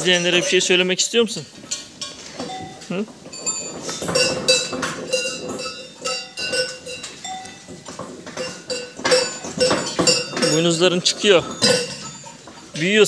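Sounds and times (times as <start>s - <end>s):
small bell clinking: 0.0s - 13.0s.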